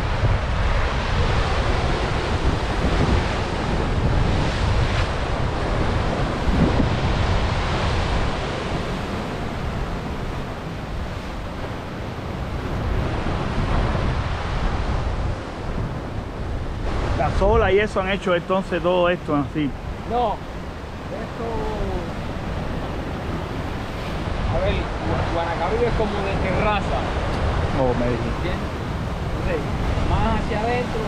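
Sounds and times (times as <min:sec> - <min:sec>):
surf breaking over rocks: 0:00.0 - 0:31.0
wind buffeting microphone: 0:00.0 - 0:31.0.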